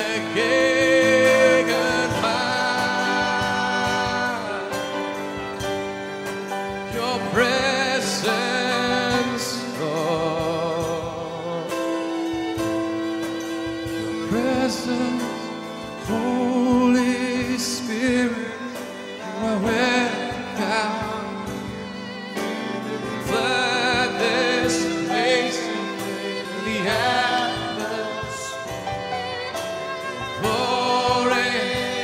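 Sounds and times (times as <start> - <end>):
held instrumental chords: 0.0 - 32.0.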